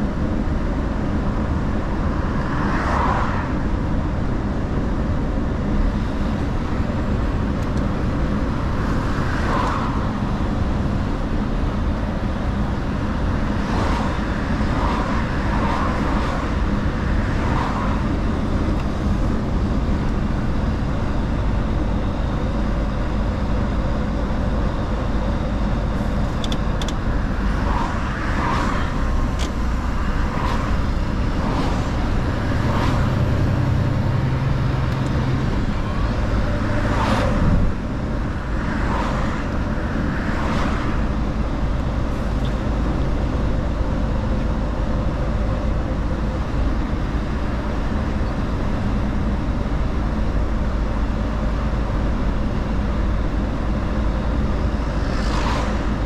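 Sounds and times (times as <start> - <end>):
road rumble: 0.0 - 56.0
truck diesel engine hum: 0.0 - 56.0.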